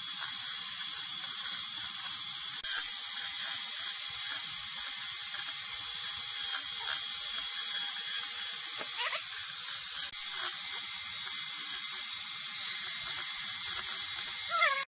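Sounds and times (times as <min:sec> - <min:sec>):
chainsaw cutting wood: 0:00.0 - 0:14.8.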